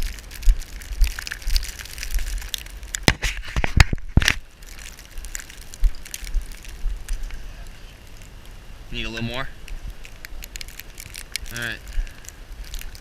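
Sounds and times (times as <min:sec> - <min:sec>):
sharp clicks and snaps: 0:00.0 - 0:07.4, 0:09.6 - 0:13.0
snow crunching: 0:00.0 - 0:13.0.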